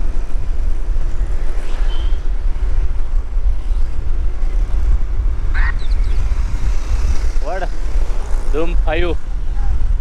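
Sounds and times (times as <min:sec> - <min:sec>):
road traffic: 0:00.0 - 0:10.0
wind rumble on microphone: 0:00.0 - 0:10.0.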